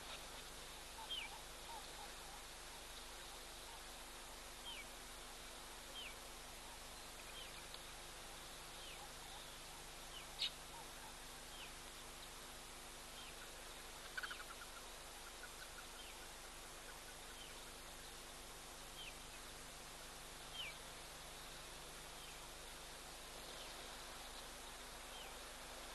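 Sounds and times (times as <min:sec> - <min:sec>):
small birds chirping: 0:00.0 - 0:12.4, 0:13.0 - 0:19.7, 0:20.4 - 0:25.9
steady background hiss: 0:00.0 - 0:25.9.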